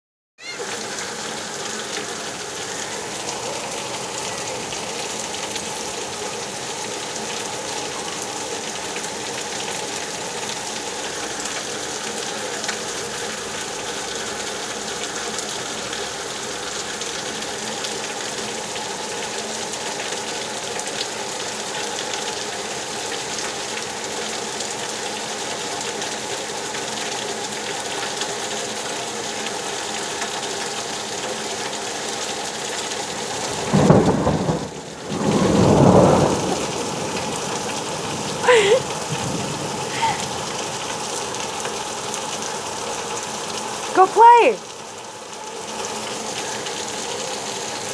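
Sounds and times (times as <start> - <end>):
steady rain: 0.4 - 47.9.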